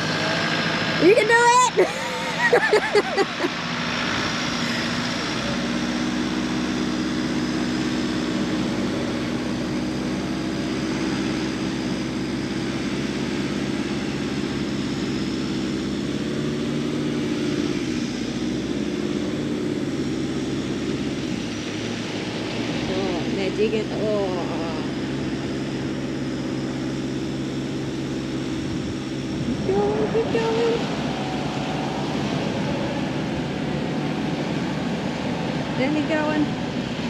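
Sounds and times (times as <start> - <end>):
vehicle engine droning: 0.0 - 37.0.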